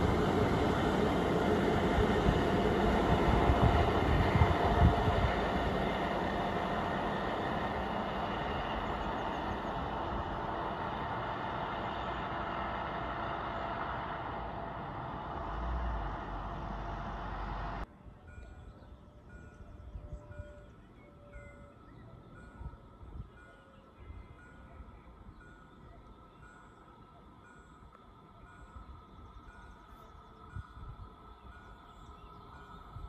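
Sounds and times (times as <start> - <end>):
rail vehicle rumbling on track: 0.0 - 33.0.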